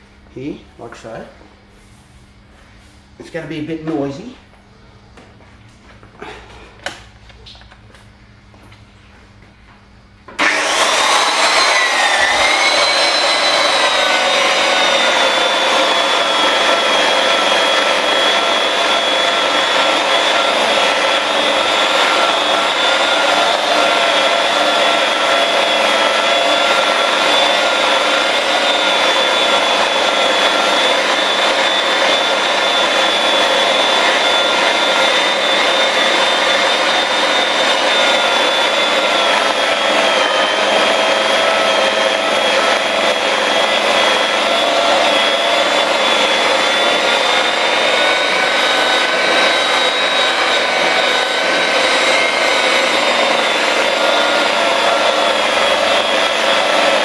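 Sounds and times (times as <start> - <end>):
rotary polisher whining: 10.3 - 57.0.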